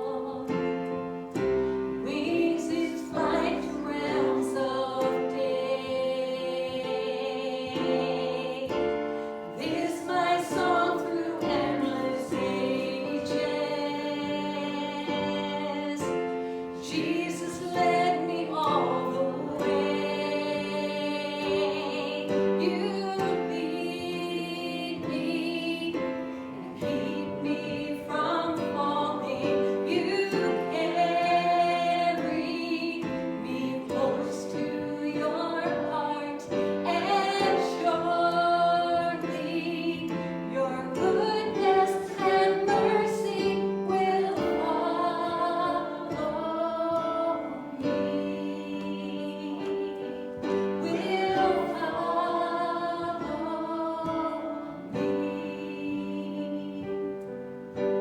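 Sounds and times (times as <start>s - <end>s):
choir singing gospel song: 0.0s - 58.0s
piano accompaniment: 0.0s - 58.0s.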